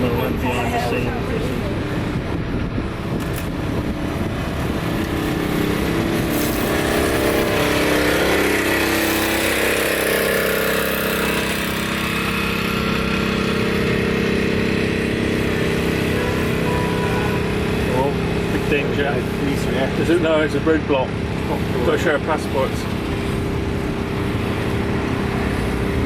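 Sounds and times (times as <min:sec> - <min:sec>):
land train engine running: 0:00.0 - 0:26.0
moving ride noise: 0:00.0 - 0:26.0.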